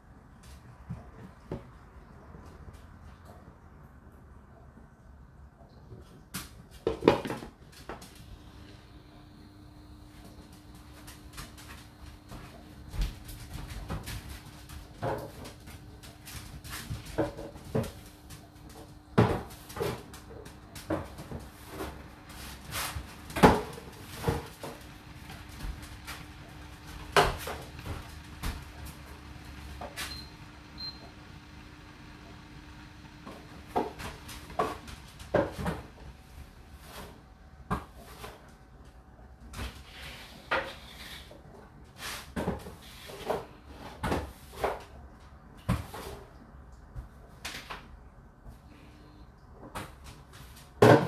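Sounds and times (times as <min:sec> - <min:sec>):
dishwasher low hum: 0:00.0 - 0:51.0.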